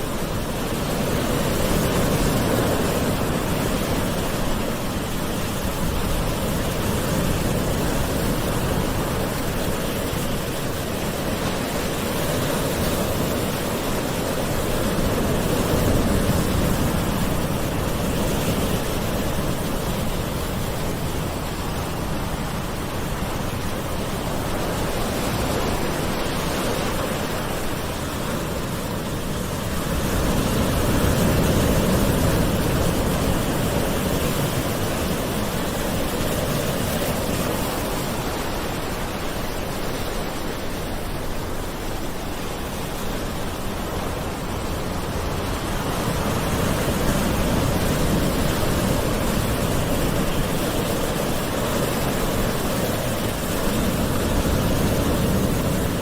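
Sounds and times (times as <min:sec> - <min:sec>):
ocean waves washing on shore: 0:00.0 - 0:56.0.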